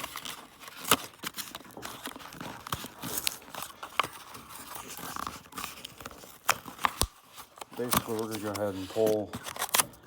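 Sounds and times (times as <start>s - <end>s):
packaging crinkling and tearing: 0.0s - 10.0s.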